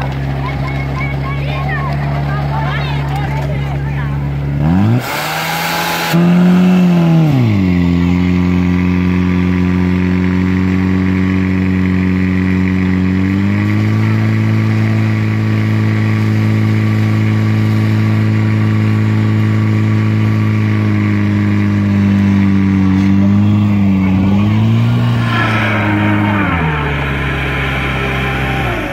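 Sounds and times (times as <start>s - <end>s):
pump engine running at high revs: 0.0s - 28.9s.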